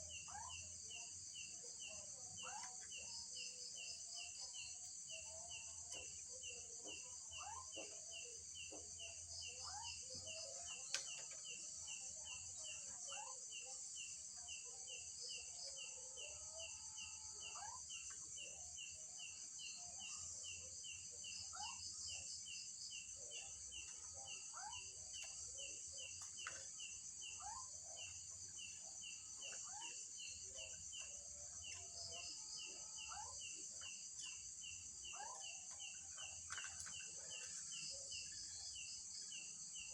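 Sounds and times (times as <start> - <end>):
night insects chirring: 0.0 - 39.9.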